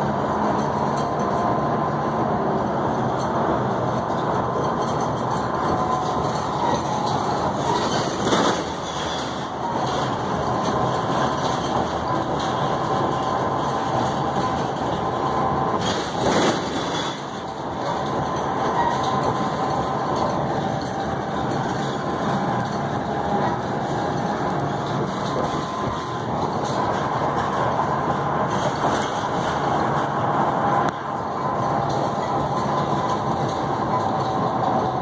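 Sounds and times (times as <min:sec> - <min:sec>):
road noise inside vehicle: 0:00.0 - 0:35.0.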